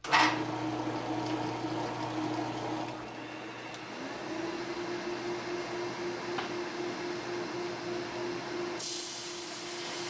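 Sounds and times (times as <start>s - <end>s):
drum sander running: 0.1s - 8.8s.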